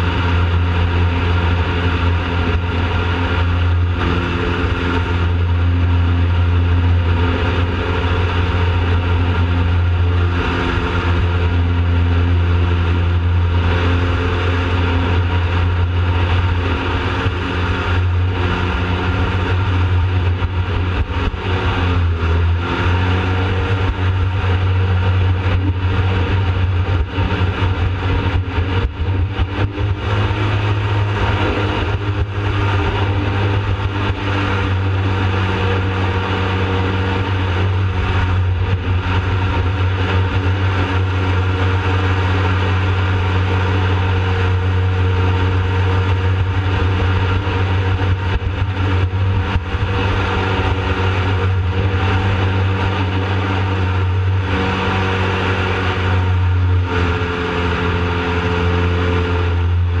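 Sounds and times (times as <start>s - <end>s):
boat engine droning: 0.0s - 60.0s.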